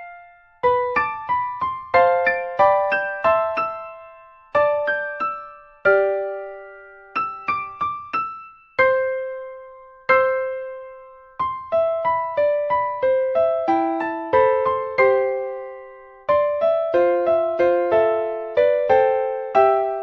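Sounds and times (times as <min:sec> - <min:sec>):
solo piano melody: 0:00.0 - 0:20.0.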